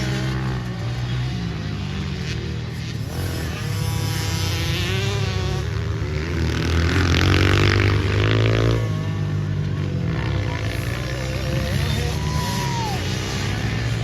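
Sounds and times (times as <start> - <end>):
pit bike engines running: 0.0 - 14.0.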